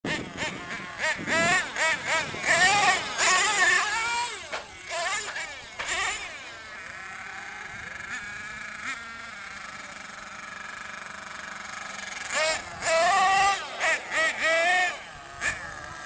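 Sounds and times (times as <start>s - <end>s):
nitro engine idling and revving: 0.0s - 16.0s.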